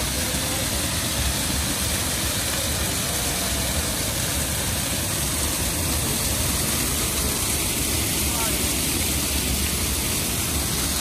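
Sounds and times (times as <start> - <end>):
waterfall splashing over stones: 0.0 - 11.0.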